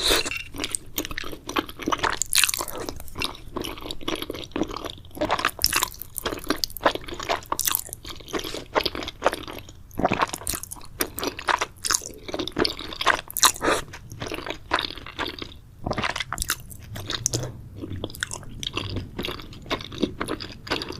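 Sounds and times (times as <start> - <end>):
person chewing and crunching food: 0.0 - 20.9.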